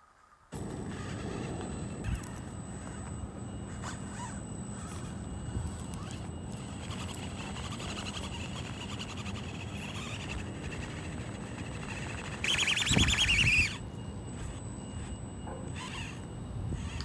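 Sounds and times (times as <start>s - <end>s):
toy car motor whining: 0.6s - 17.0s.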